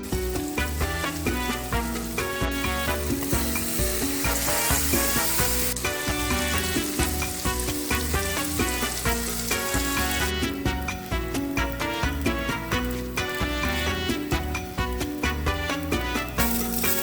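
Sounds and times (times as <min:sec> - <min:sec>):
food sizzling in a hot pan: 0:00.0 - 0:17.0
music playing: 0:00.0 - 0:17.0.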